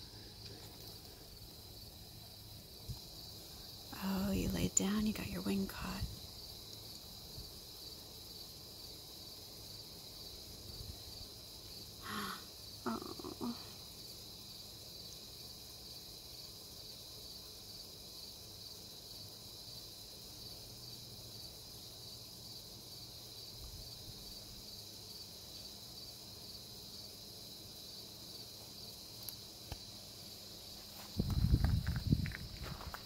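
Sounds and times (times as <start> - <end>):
crickets trilling: 0.0 - 33.0.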